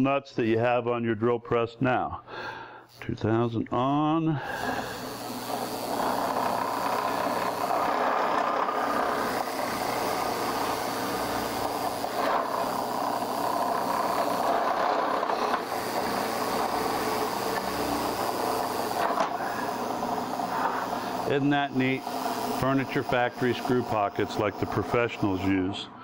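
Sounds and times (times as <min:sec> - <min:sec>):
drill press motor whine: 0:04.4 - 0:26.0.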